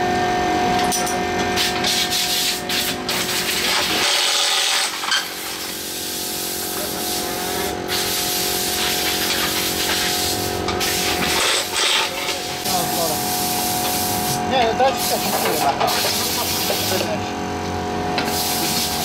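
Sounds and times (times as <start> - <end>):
mechanics' tool noise: 0.0 - 19.0
steady hum and hiss: 0.0 - 19.0.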